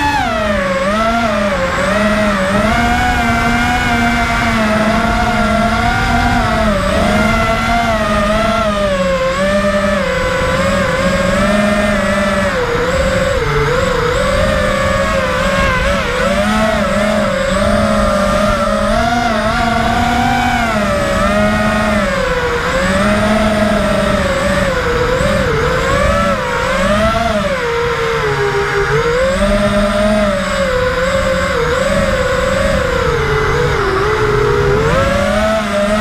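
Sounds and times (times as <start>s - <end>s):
quadcopter motors whining: 0.0s - 36.0s.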